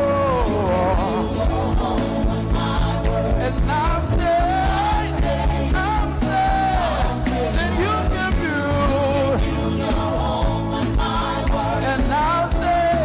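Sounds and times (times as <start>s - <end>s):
band playing with drums and bass: 0.0s - 13.0s.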